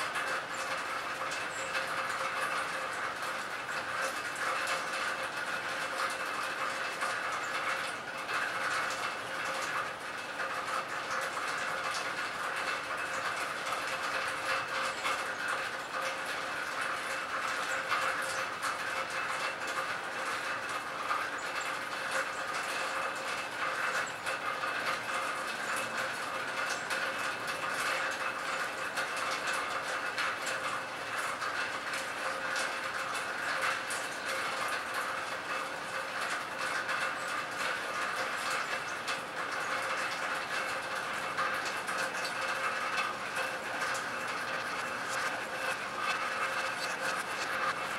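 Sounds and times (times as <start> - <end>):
rain falling on water: 0.0 - 47.9.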